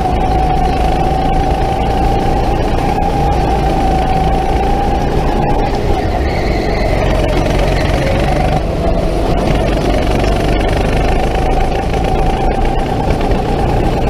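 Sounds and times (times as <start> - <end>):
dense low rumble: 0.0 - 14.0
go-kart motor running: 0.0 - 14.0.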